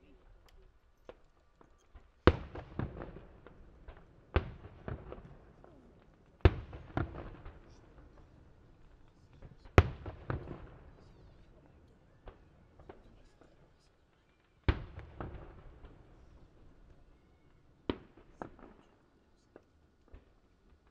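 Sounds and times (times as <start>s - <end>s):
firework crackling: 0.0s - 20.9s.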